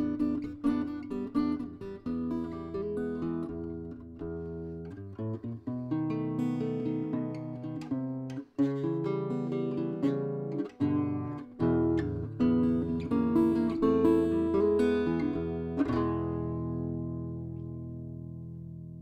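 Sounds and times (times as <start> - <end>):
acoustic guitar chords and notes: 0.0 - 19.0.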